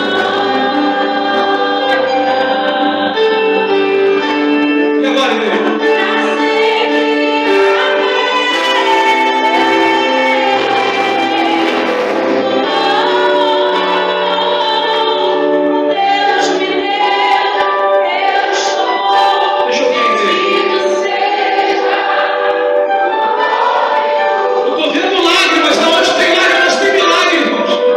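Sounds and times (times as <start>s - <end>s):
instrumental accompaniment: 0.0s - 27.9s
voices singing worship song: 0.0s - 27.9s.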